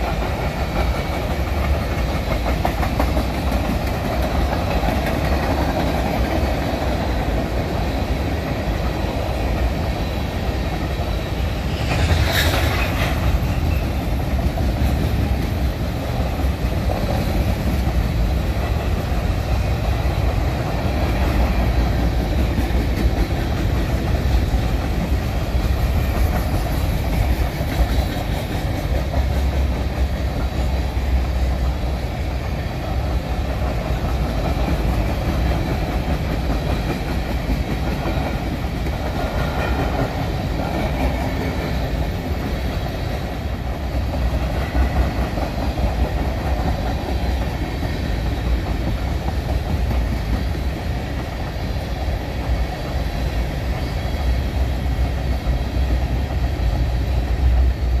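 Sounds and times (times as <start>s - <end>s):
freight train rumbling past: 0.0s - 58.0s
train wheels clicking over rails: 0.0s - 58.0s.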